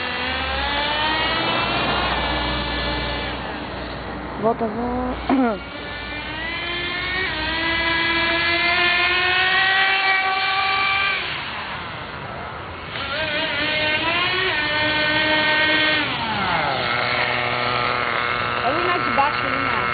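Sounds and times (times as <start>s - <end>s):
toy truck electric motor whining: 0.0s - 19.9s.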